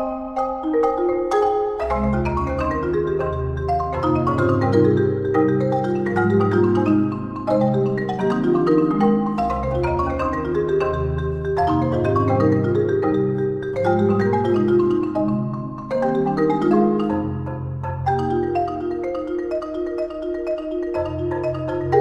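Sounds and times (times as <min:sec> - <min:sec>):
deep marimba bass notes: 0:00.0 - 0:22.0
marimba duet: 0:00.0 - 0:22.0.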